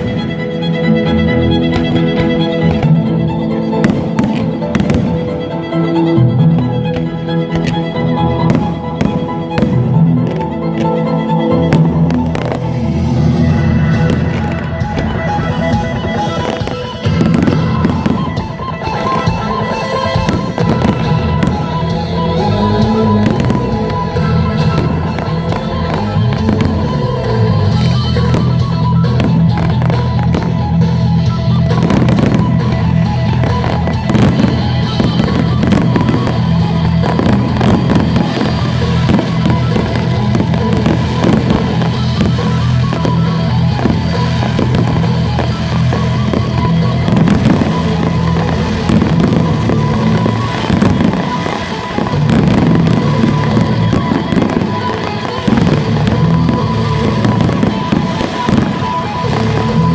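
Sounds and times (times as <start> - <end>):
fireworks bursting and crackling: 0.0 - 59.9
loud music: 0.0 - 59.9.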